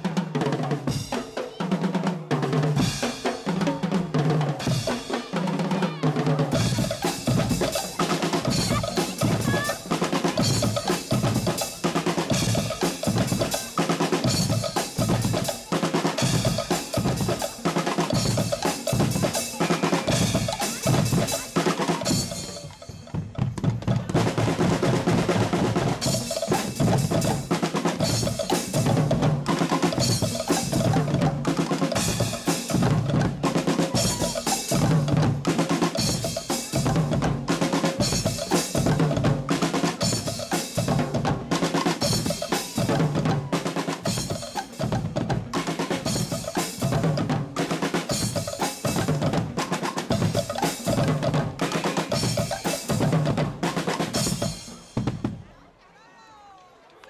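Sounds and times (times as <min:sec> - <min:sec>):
percussion band playing carnival beat: 0:00.0 - 0:56.1.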